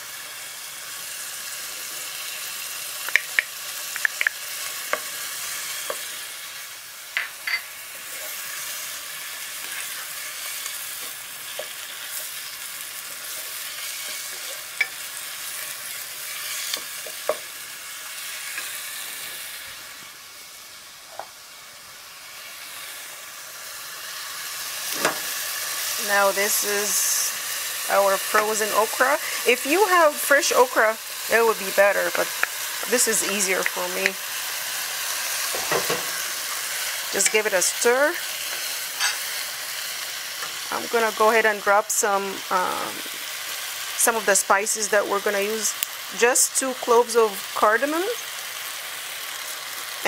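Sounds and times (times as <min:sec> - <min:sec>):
onion and garlic sizzling: 0:00.0 - 0:50.0.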